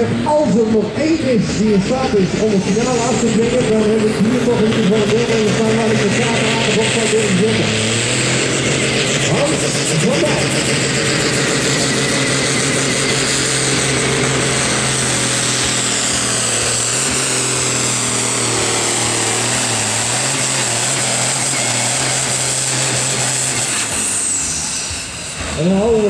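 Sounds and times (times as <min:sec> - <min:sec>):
high turbo whine: 0:00.0 - 0:26.0
tractor diesel engine running flat out: 0:00.0 - 0:26.0.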